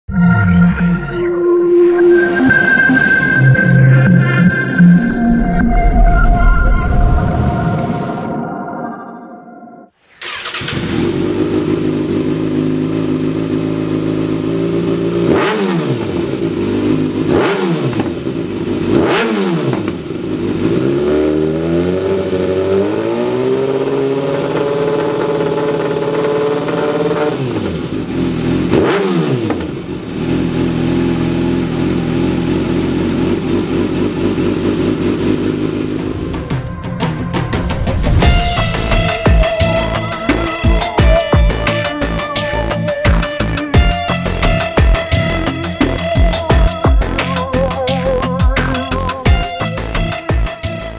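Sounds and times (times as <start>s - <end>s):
motorcycle engine revving: 10.0s - 50.9s.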